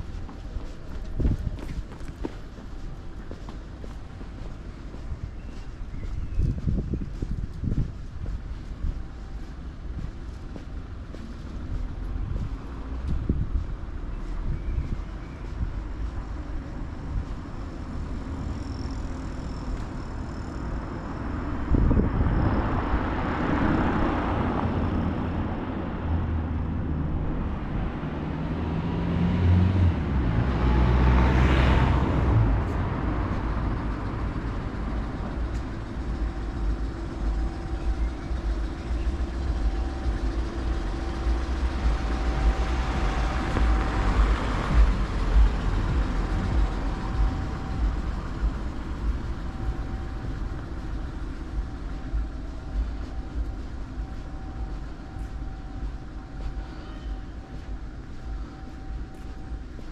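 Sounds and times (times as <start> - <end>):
low traffic rumble: 0.0 - 59.9
motor vehicles passing: 0.0 - 59.9.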